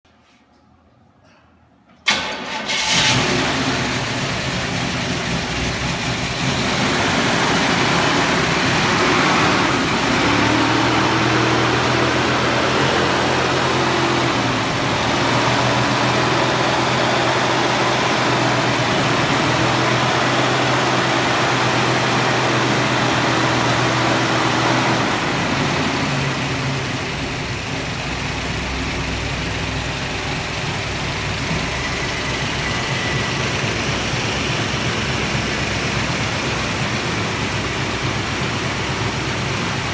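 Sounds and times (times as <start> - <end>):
car engine idling: 2.1 - 39.9.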